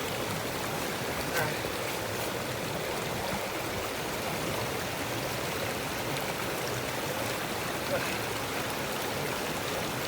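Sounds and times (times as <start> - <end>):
small creek flowing: 0.0 - 10.0.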